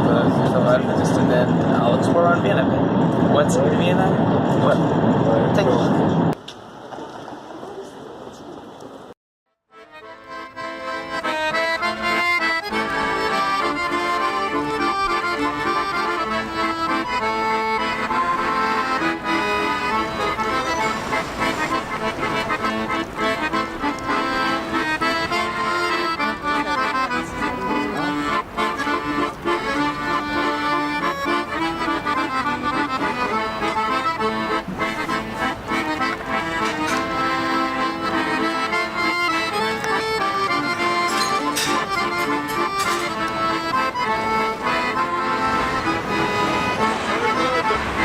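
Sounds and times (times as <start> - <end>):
accordion music: 0.0 - 6.4, 9.7 - 48.0.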